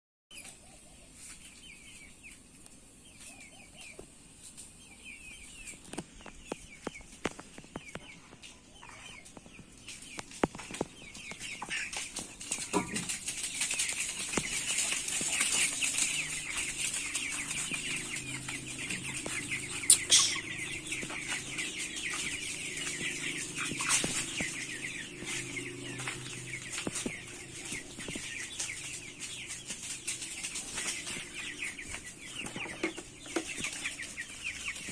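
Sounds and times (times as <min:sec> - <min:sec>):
chickens clucking: 0:00.3 - 0:34.9.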